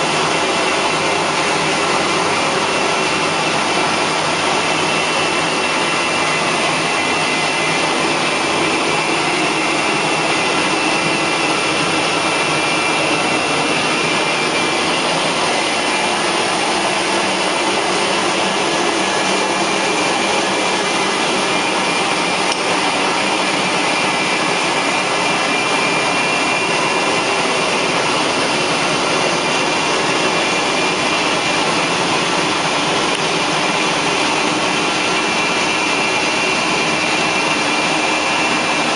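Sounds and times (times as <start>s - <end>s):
carpet cleaner vacuum suction: 0.0s - 38.9s.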